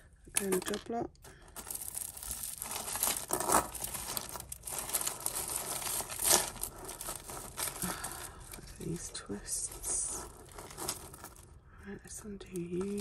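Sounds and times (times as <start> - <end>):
plastic bag crinkling: 0.3 - 11.6, 12.5 - 13.0.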